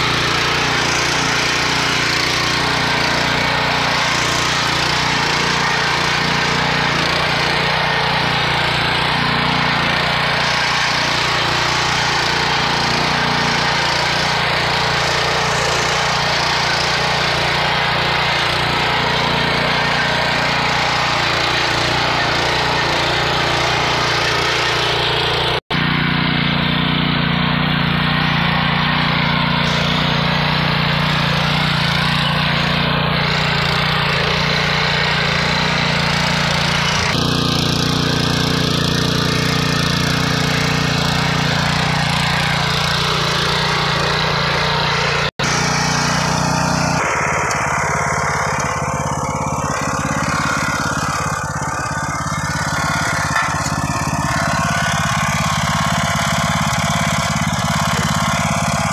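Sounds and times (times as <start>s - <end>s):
tiller engine running: 0.0s - 58.9s
tines churning soil: 0.0s - 58.9s.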